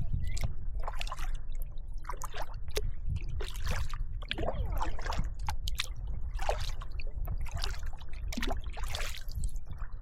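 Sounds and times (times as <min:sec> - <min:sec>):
paddle splashing in water: 0:00.2 - 0:09.9.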